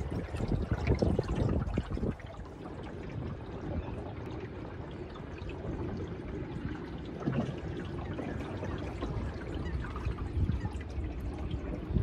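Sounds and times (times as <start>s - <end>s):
water gurgling along hull: 0.0s - 12.0s.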